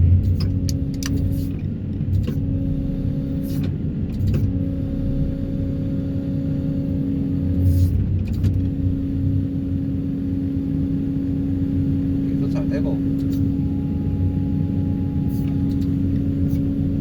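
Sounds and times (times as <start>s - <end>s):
vibro hammer rumbling and humming: 0.0s - 17.0s.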